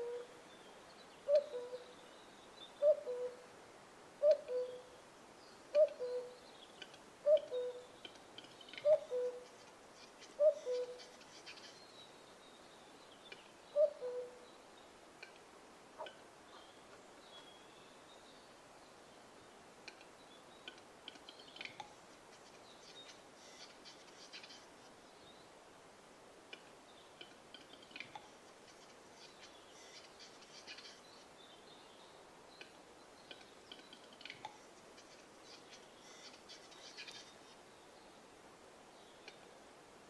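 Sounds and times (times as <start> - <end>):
bird display song: 0.0 - 3.5, 4.2 - 25.6, 26.5 - 38.3, 38.9 - 39.6.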